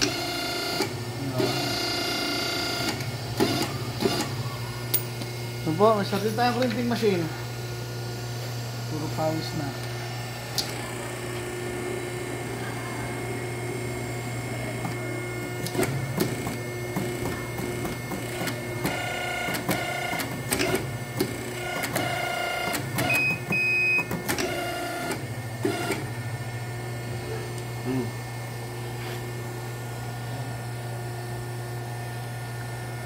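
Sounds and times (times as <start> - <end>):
crimping machine motor hum: 0.0 - 33.0.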